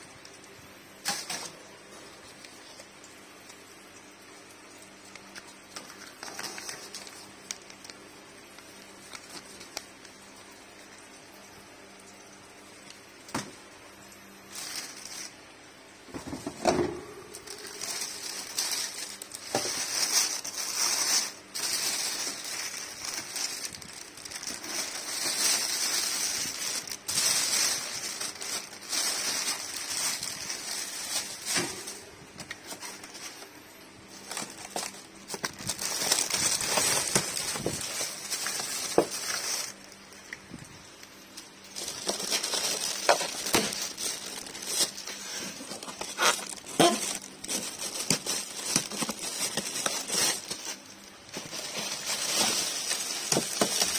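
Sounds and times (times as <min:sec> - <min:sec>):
plastic wrapping crinkling: 0:00.2 - 0:13.8, 0:14.4 - 0:53.9.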